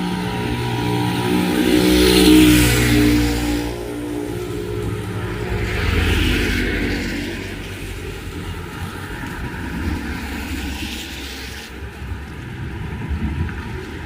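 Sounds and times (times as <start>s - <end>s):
vehicle engine passing by: 0.0s - 11.7s
rain hiss: 1.9s - 14.0s.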